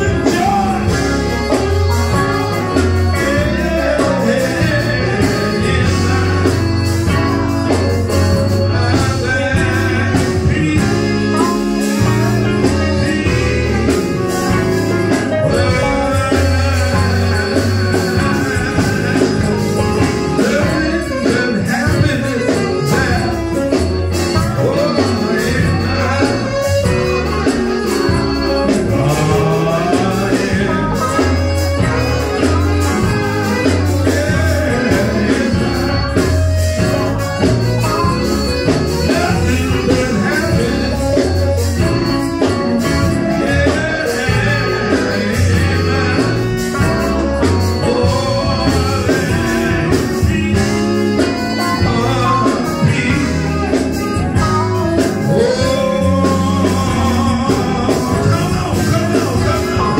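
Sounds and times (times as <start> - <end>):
electric guitar band playing: 0.0 - 59.9
person singing: 0.0 - 59.9
steady bass line: 0.0 - 59.9.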